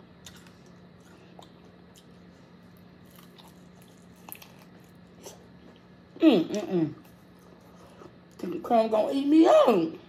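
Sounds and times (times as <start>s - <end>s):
biting and chewing chicken wings: 0.0s - 8.4s.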